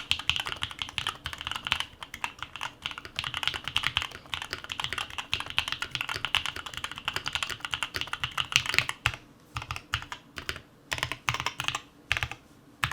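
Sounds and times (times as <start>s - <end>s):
mechanical keyboard typing: 0.0s - 12.9s.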